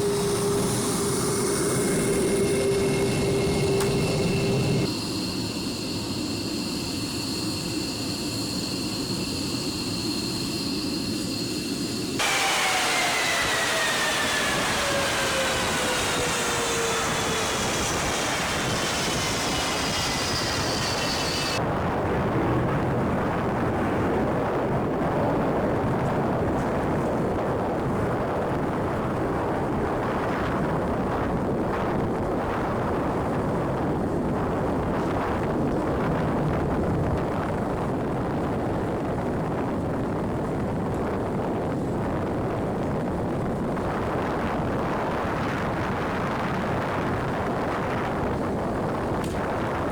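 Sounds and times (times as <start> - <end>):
fighter jet engine: 0.0 - 49.9.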